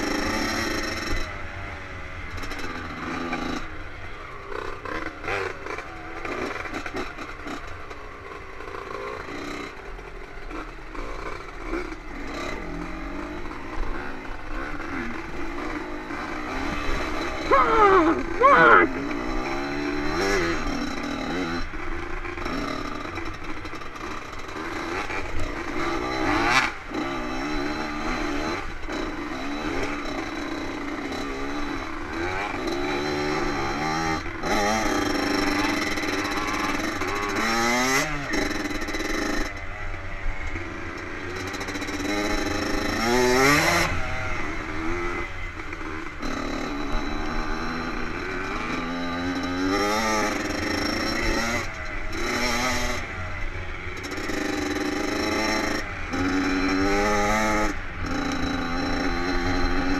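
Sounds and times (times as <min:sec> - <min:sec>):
dirt bike engine revving: 0:00.0 - 0:39.9, 0:40.5 - 0:59.9.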